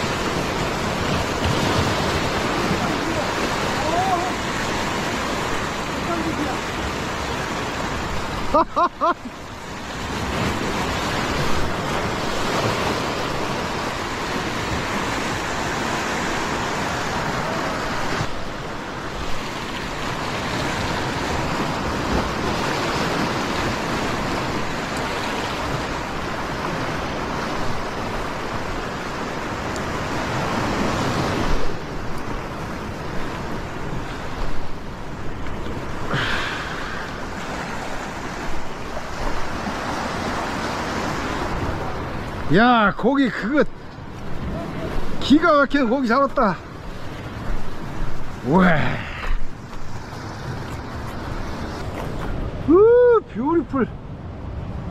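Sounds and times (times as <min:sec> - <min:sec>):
surf breaking against rocks: 0:00.0 - 0:54.9.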